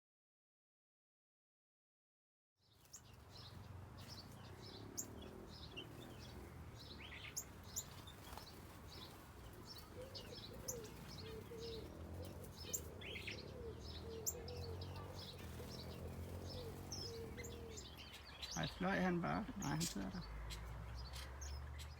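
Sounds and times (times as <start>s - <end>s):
small birds chirping: 2.6s - 21.9s.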